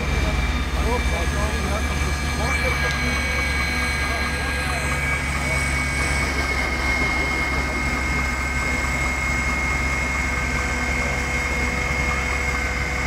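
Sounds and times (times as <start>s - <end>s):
heavy engine droning: 0.0s - 13.0s
thin steady whine: 0.0s - 13.0s.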